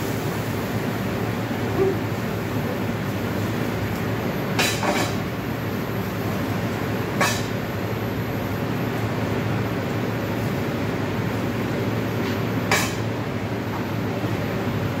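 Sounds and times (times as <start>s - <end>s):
gas burners and extractor roar: 0.0s - 15.0s.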